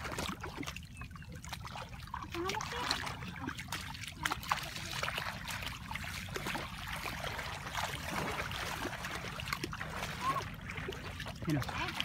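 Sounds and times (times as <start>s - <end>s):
splashing through shallow water: 0.0s - 12.0s.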